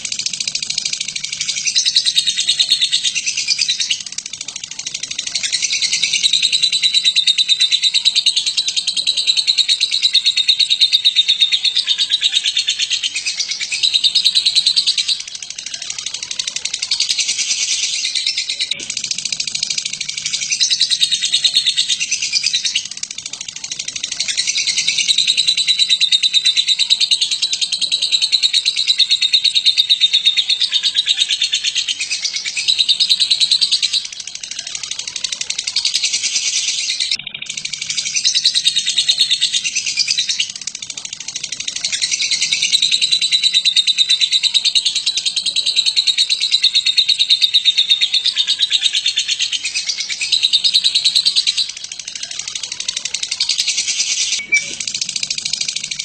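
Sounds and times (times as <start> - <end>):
lovebird chattering high chirps: 0.0 - 56.0.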